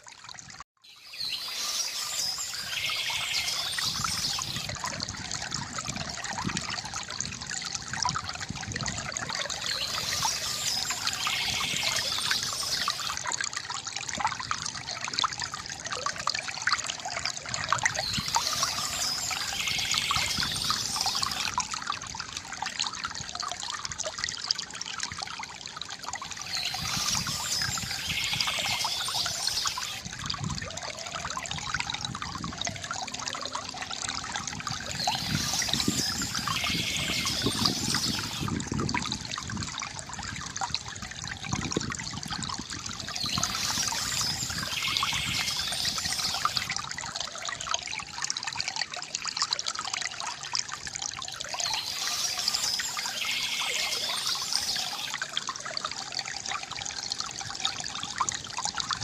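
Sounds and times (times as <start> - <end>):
fountain water trickling into basin: 0.0 - 59.0.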